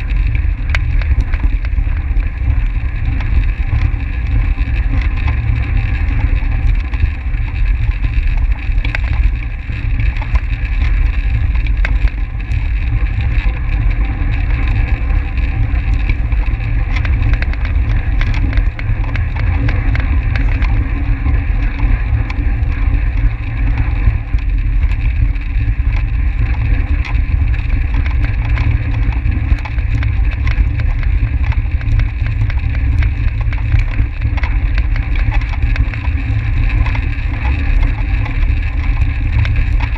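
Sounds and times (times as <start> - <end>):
tyre and drivetrain hum: 0.0 - 39.9
wind buffeting microphone: 0.0 - 39.9
light ticks: 0.1 - 39.9.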